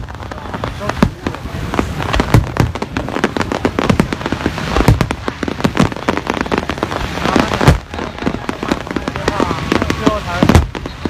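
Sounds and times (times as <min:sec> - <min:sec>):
firework shells bursting: 0:00.0 - 0:11.0
fireworks crackling: 0:00.0 - 0:11.0.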